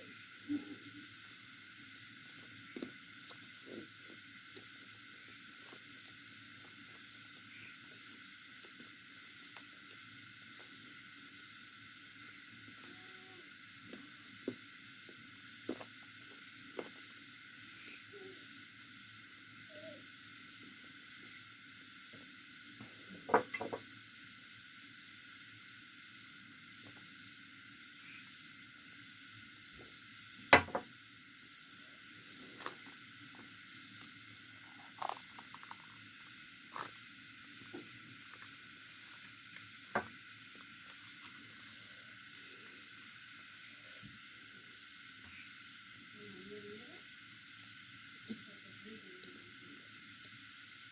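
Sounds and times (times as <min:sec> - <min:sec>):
insect chirping: 0:00.0 - 0:50.9
steady hiss: 0:00.0 - 0:50.9.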